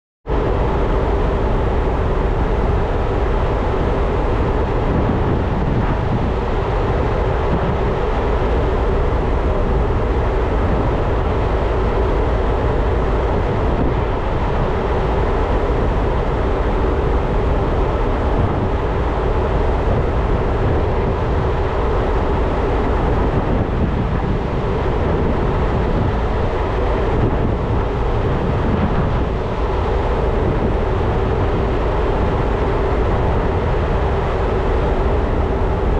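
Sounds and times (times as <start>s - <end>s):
ship engine hum: 0.3s - 35.9s
wind rush: 0.3s - 35.9s.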